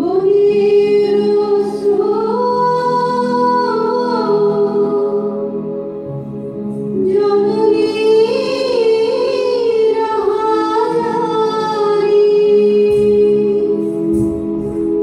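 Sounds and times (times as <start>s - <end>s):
sustained musical accompaniment: 0.0s - 15.0s.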